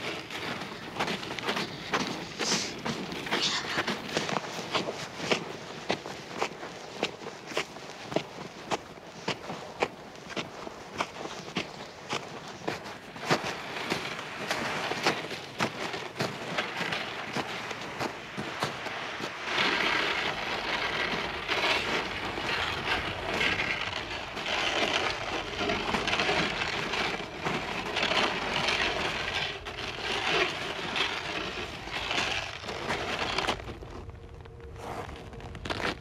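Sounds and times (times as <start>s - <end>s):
footsteps crunching through snow: 0.0s - 36.0s.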